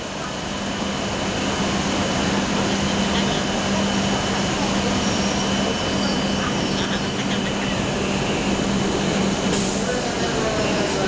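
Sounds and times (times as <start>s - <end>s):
high-speed train rushing: 0.0s - 11.0s.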